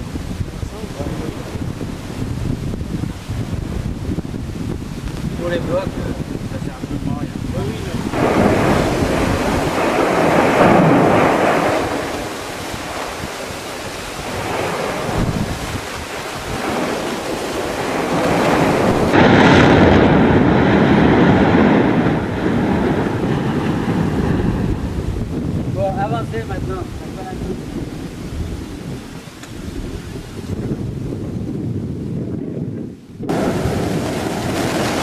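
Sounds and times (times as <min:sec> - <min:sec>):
volcano eruption roar: 0:00.0 - 0:35.0
wind buffeting microphone: 0:00.0 - 0:35.0.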